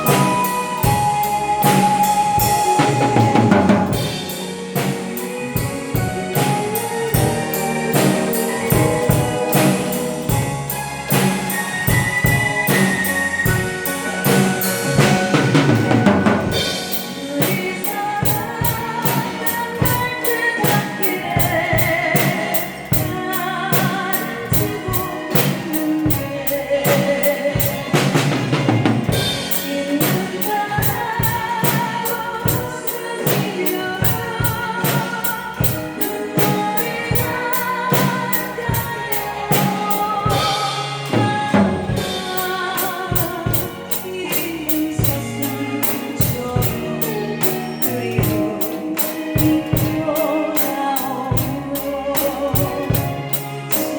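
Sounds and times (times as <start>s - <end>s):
drum kit playing a steady beat: 0.0s - 53.9s
person singing with vibrato: 0.0s - 53.9s
recorded ballad: 0.0s - 53.9s.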